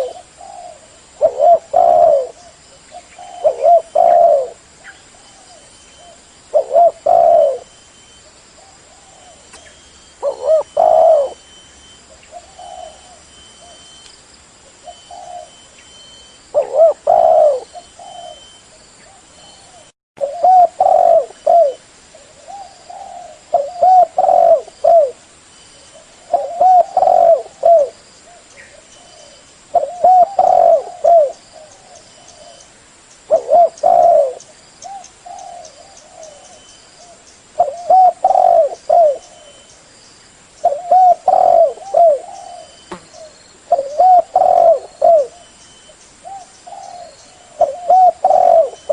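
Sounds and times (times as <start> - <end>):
dove cooing: 0.0 - 7.8, 8.6 - 13.9, 14.8 - 15.7, 16.5 - 25.2, 25.8 - 32.7, 33.3 - 39.7, 40.6 - 48.9.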